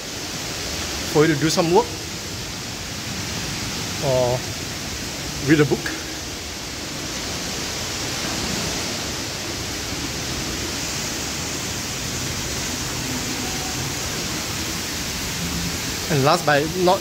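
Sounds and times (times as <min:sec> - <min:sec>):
running water hissing: 0:00.0 - 0:17.0.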